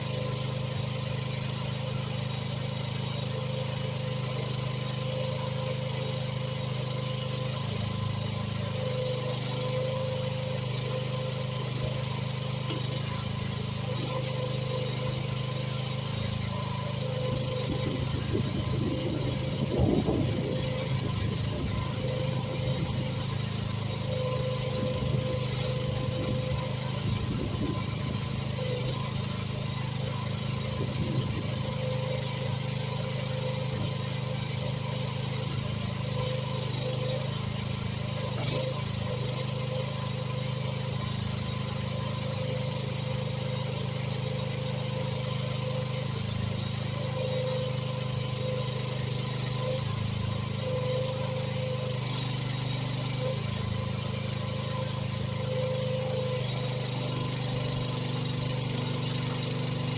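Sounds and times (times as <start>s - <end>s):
excavator engine running: 0.0s - 59.9s
hydraulic whine: 0.0s - 59.9s.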